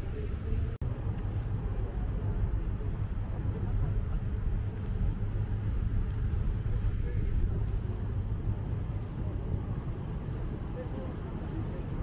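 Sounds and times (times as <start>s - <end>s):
boat engine rumble: 0.0s - 12.0s.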